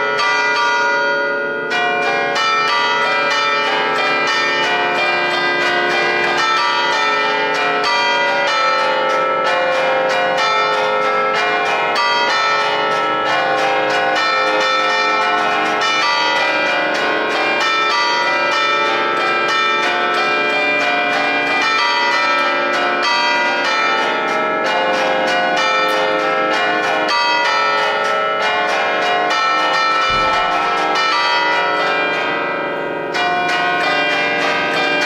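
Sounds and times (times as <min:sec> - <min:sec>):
church bells ringing melody: 0:00.0 - 0:35.0.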